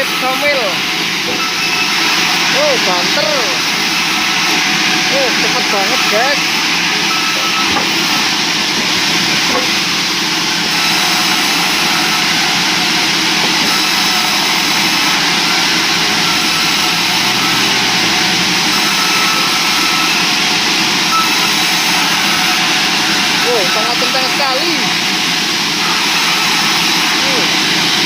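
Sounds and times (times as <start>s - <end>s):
machinery running: 0.0s - 28.0s
sawmill saw cutting logs: 0.0s - 28.0s.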